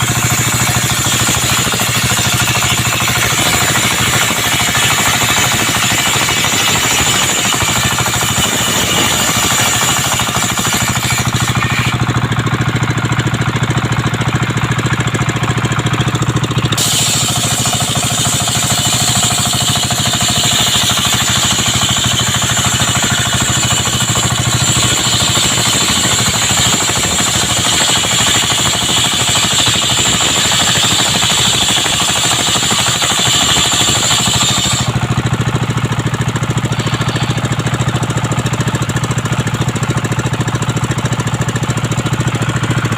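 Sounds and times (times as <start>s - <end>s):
saw blade whining through wood: 0.0s - 42.9s
sawmill engine throbbing: 0.0s - 42.9s.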